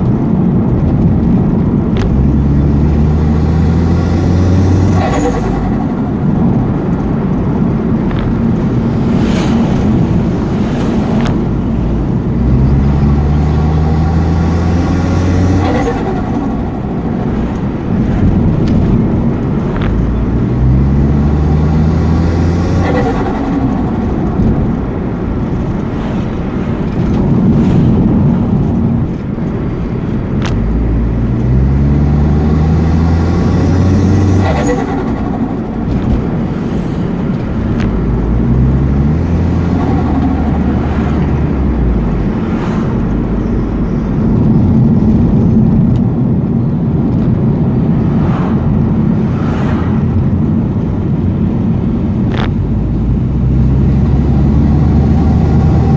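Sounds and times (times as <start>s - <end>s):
turbocharged engine revving: 0.8s - 55.9s.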